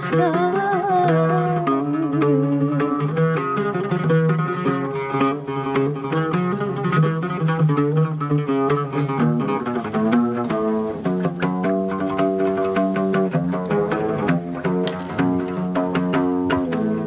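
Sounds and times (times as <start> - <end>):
plucked oud melody: 0.0 - 17.0.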